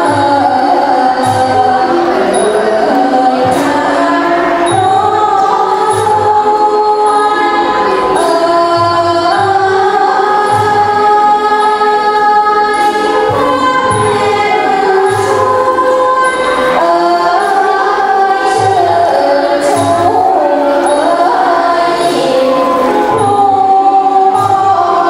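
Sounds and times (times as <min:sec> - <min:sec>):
chorus singing: 0:00.0 - 0:25.0
classical ensemble: 0:00.0 - 0:25.0.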